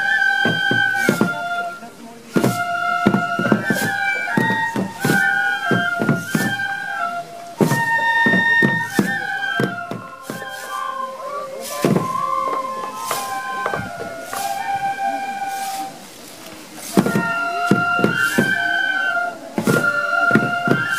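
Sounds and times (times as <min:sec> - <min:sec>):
bamboo flutes playing melody: 0:00.0 - 0:20.9
drum strokes: 0:00.0 - 0:20.9.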